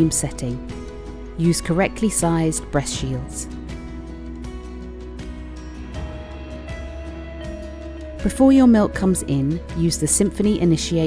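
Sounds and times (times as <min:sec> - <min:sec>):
instrumental music: 0:00.7 - 0:10.7.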